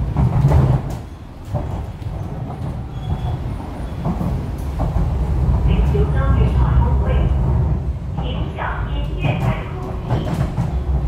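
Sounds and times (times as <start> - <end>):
track clacks: 0.0 - 11.0
train wheels rumbling: 0.0 - 11.0.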